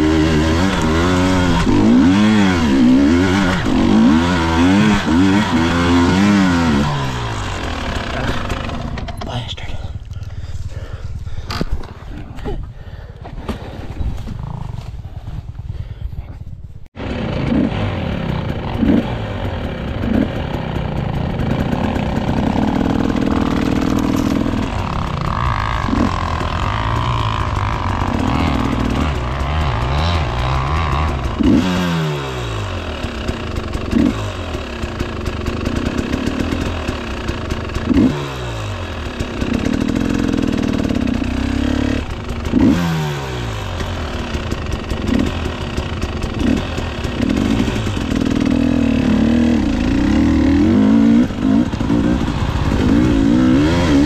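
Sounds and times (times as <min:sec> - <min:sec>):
dirt bike engine revving: 0:00.0 - 0:09.4, 0:17.0 - 0:54.0.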